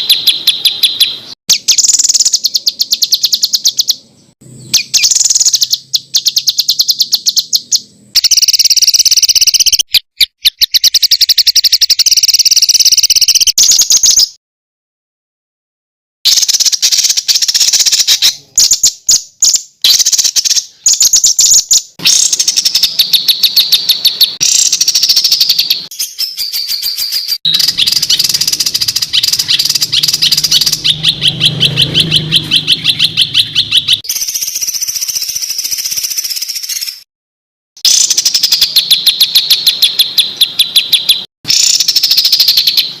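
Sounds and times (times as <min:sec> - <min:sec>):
songbird rapid harsh bursts: 0:00.0 - 0:14.3, 0:16.3 - 0:37.0, 0:37.8 - 0:43.0.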